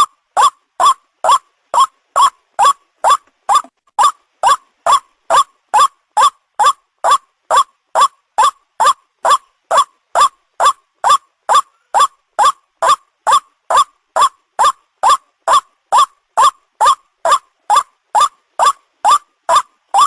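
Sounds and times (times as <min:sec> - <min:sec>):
waterhen call: 0:00.0 - 0:20.0.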